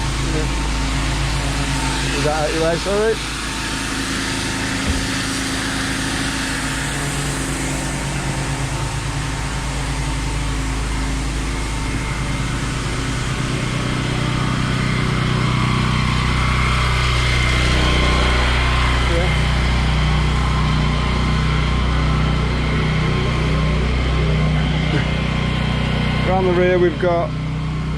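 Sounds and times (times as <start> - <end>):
pressure washer engine running: 0.0 - 27.9.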